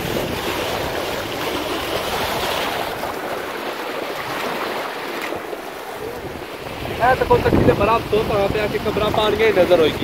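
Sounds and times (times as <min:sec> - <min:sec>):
waves lapping against shore: 0:00.0 - 0:10.0
wind rumbling on microphone: 0:00.0 - 0:10.0.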